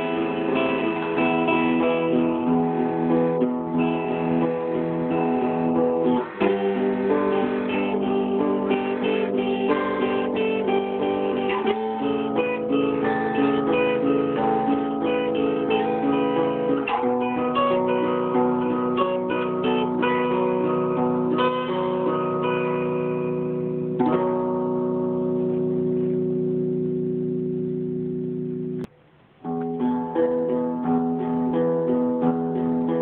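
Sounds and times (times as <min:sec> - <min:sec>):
plucked string music: 0:00.0 - 0:33.0.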